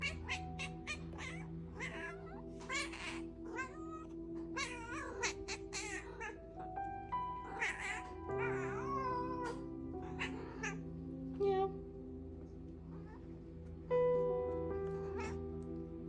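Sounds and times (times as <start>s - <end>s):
background music: 0.0s - 16.0s
cats meowing and caterwauling: 0.0s - 16.0s.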